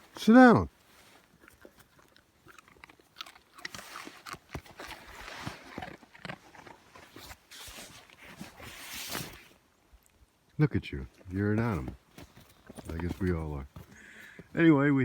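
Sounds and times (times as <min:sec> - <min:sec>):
crunching in snow: 0:00.0 - 0:09.6, 0:11.3 - 0:14.4.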